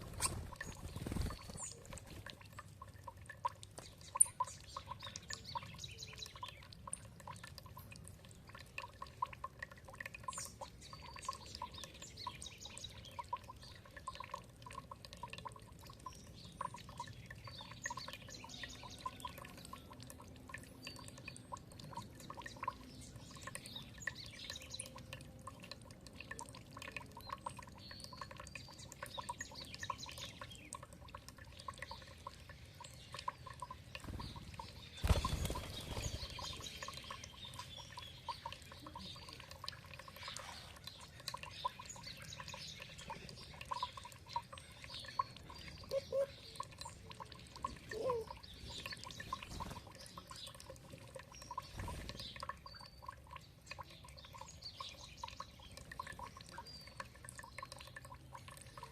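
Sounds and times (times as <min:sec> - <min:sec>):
small birds chirping: 0:00.0 - 0:58.9
water trickling and pouring: 0:00.0 - 0:58.9.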